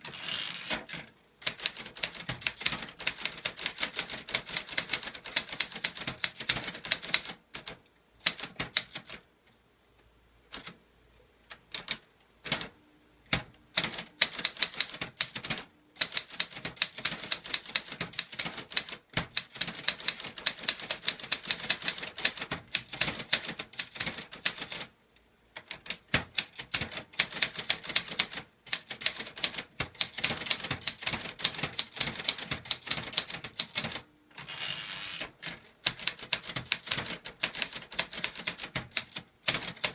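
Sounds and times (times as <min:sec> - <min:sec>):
typewriter typing: 0:00.0 - 0:09.2, 0:11.7 - 0:12.7, 0:13.3 - 0:24.9, 0:25.6 - 0:39.9.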